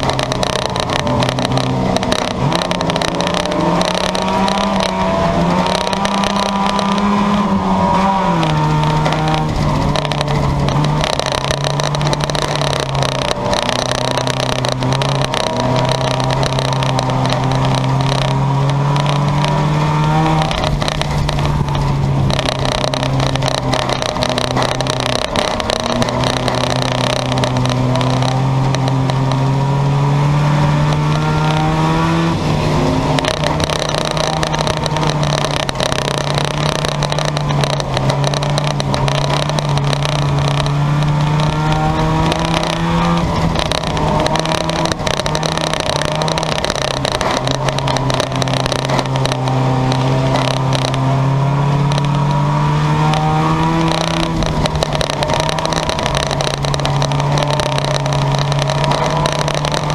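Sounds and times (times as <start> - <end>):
race car engines running hard: 0.0 - 59.9.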